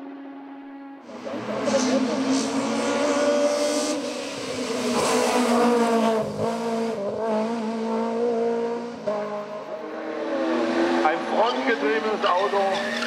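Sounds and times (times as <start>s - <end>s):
race car engine revving: 1.0s - 13.0s.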